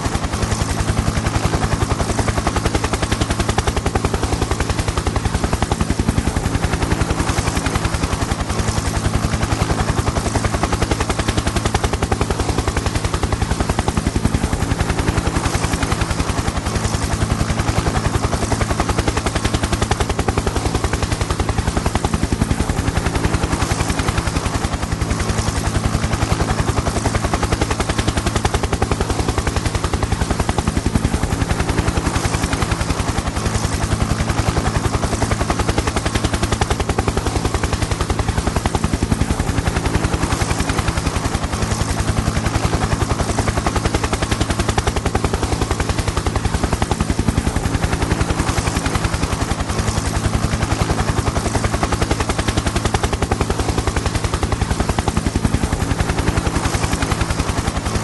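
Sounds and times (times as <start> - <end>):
helicopter rotor chop: 0.0 - 58.0.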